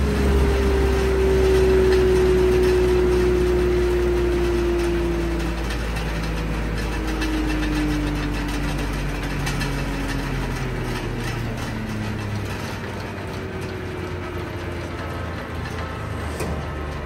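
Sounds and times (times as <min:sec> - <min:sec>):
feed grinder hum winding down: 0:00.0 - 0:17.0
tractor engine running: 0:00.0 - 0:17.0
light clicks and rattles: 0:00.4 - 0:17.0.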